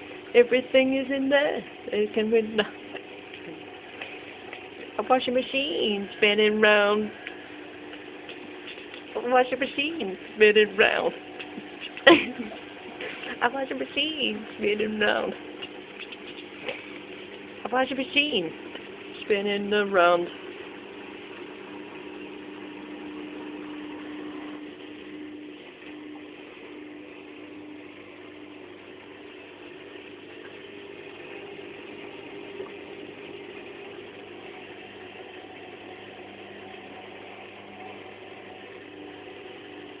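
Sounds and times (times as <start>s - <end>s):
washing machine running: 0.0s - 40.0s.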